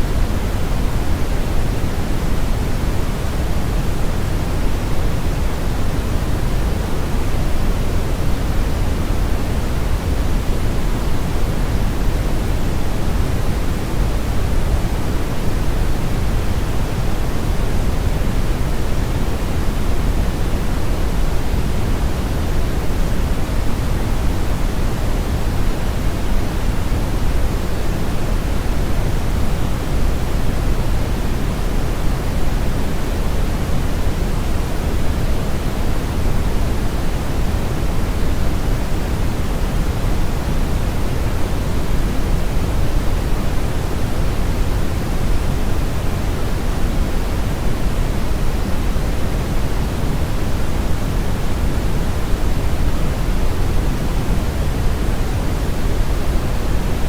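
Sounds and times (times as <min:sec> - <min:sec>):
brown noise rumble: 0:00.0 - 0:57.0
white noise hiss: 0:00.0 - 0:57.0.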